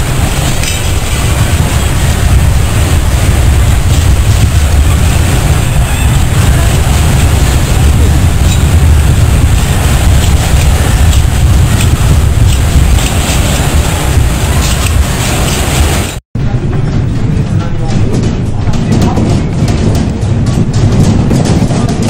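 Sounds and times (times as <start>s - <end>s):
earthquake rumble: 0.0s - 22.0s.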